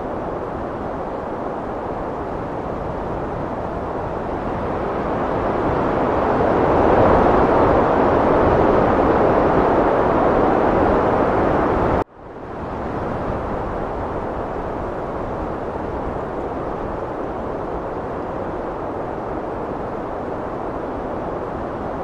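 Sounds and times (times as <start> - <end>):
heavy wind gusting: 0.0 - 22.0.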